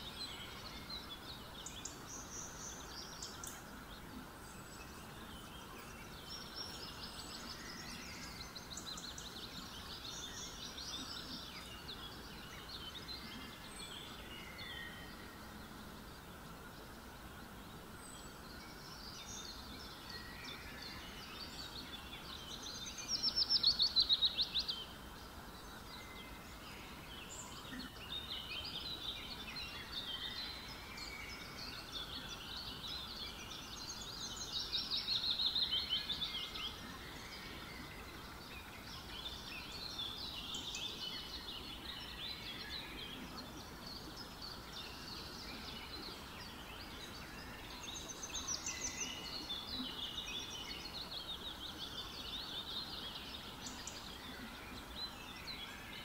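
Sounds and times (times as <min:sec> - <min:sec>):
birds chirping and trilling: 0:00.0 - 0:56.0
low background hiss: 0:00.0 - 0:56.0.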